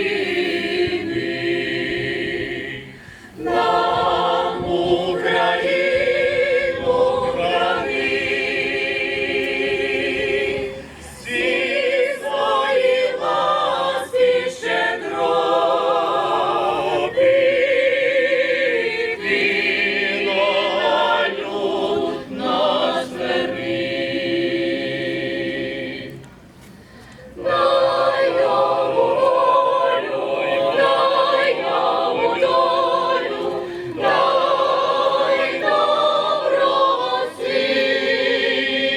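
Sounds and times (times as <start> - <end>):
choir singing: 0.0 - 26.3, 27.4 - 38.9.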